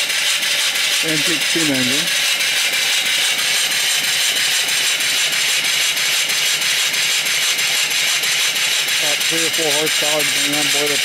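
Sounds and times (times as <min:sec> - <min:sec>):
steam engine exhaust hissing: 0:00.0 - 0:11.0.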